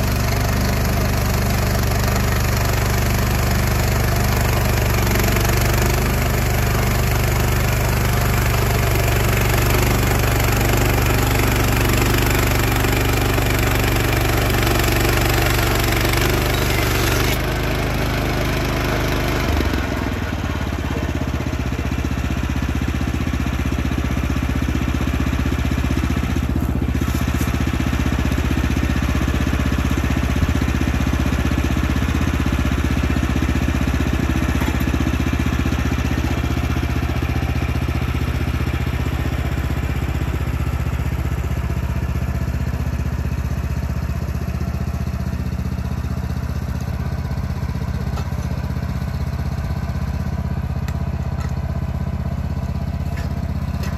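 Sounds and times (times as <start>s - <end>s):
engine running steadily: 0.0s - 53.9s.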